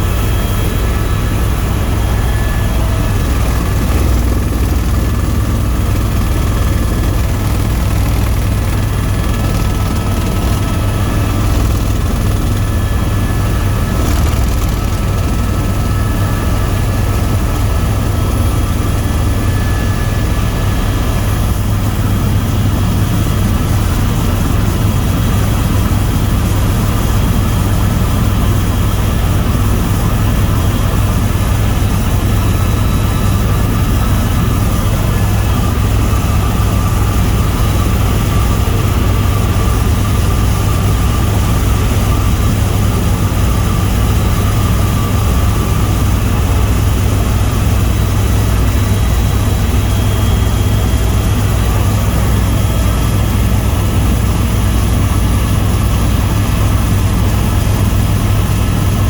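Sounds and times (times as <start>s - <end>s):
faint steady whines: 0.0s - 59.0s
helicopter rotor and turbine drone: 0.0s - 59.0s.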